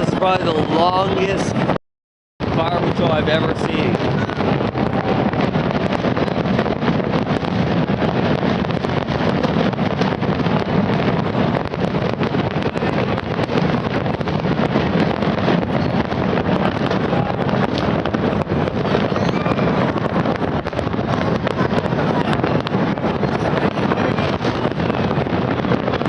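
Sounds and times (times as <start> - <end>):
fireworks bangs and crackles: 0.0 - 1.8, 2.4 - 26.0.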